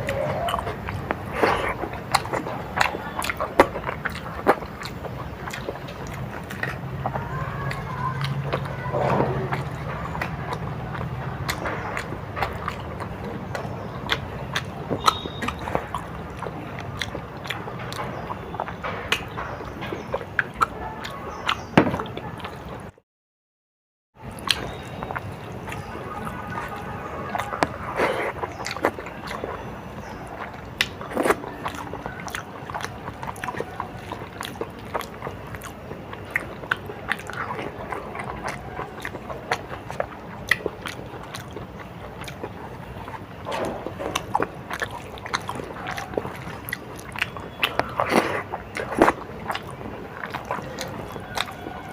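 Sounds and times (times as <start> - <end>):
person chewing food: 0.0 - 23.0, 24.2 - 51.9.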